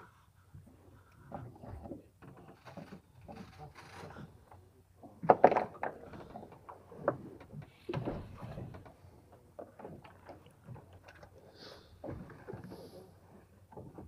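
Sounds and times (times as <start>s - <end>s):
knocks and clatter on wooden boat: 1.2s - 14.0s.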